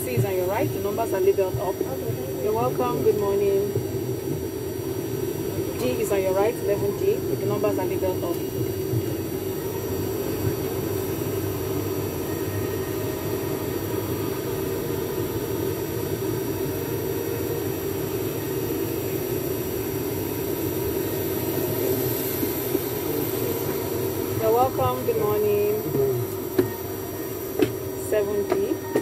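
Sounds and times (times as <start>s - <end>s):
cabin ventilation drone and hiss: 0.0s - 29.0s
faint high whining tones: 0.0s - 29.0s.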